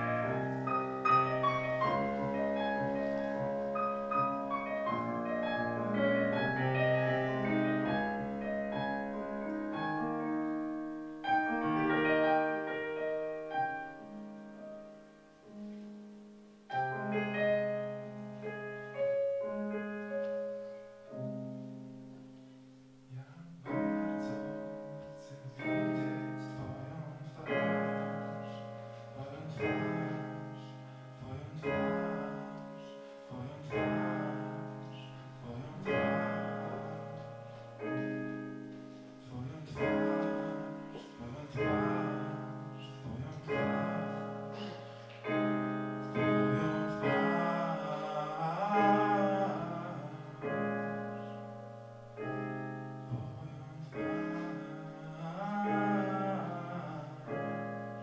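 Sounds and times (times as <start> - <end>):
piano chords: 0.0 - 58.0.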